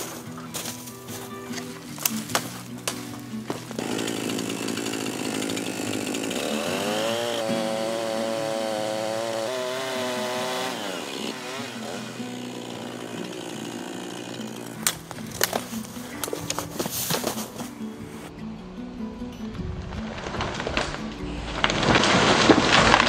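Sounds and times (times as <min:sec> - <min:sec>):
chainsaw cutting wood: 0:01.8 - 0:17.6, 0:20.1 - 0:23.0.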